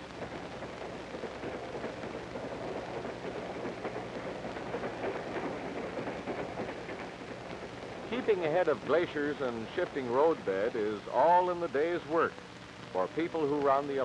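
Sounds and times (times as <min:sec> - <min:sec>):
film soundtrack crackling hiss: 0:00.0 - 0:14.0
low even hum: 0:00.0 - 0:14.0.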